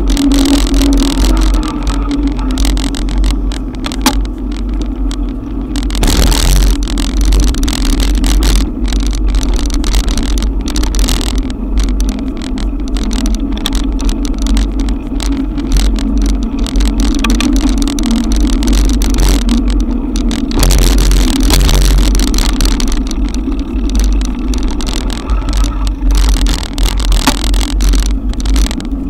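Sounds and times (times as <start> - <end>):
heavy rain: 0.0 - 29.0
loud steady rumble: 0.0 - 29.0
wind buffeting microphone: 0.0 - 29.0.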